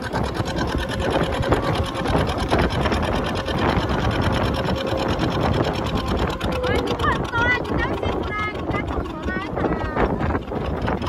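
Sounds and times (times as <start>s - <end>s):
boat engine puttering: 0.0s - 11.0s.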